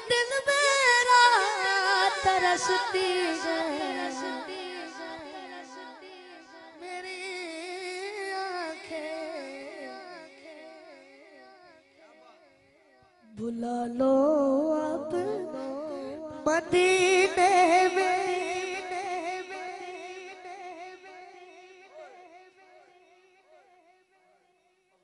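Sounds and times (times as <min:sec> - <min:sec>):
boy singing into a microphone: 0:00.0 - 0:12.5, 0:13.2 - 0:23.5.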